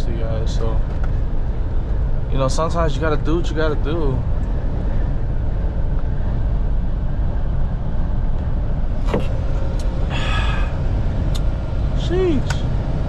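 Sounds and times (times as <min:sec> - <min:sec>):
road noise: 0:00.0 - 0:13.0
truck engine rumble: 0:00.0 - 0:13.0.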